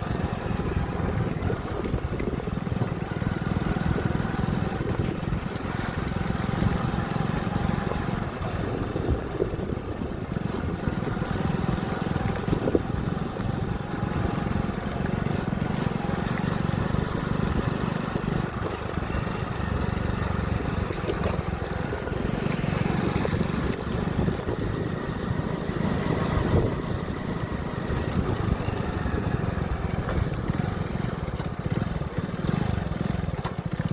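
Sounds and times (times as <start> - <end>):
motorcycle engine rumbling: 0.0 - 33.9.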